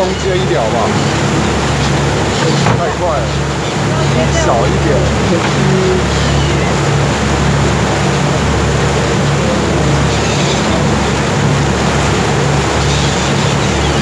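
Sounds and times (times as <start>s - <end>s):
boat engine humming: 0.0s - 14.0s
churning wake water: 0.0s - 14.0s.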